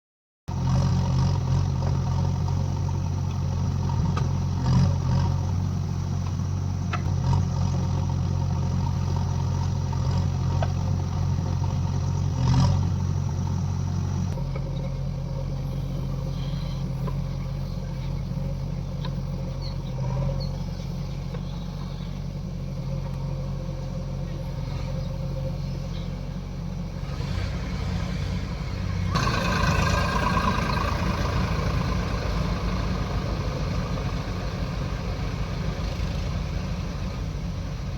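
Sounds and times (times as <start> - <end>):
diesel engine running: 0.5 - 37.9.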